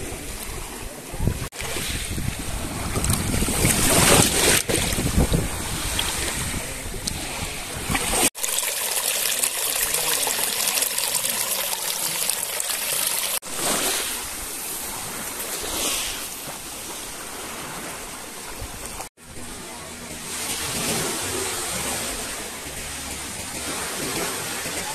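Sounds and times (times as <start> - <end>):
water splashing and trickling: 1.5 - 24.9.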